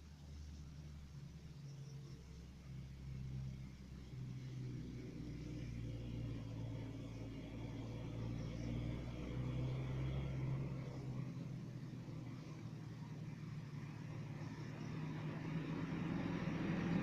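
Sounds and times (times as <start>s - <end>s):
faint low motor hum: 0.0s - 17.0s.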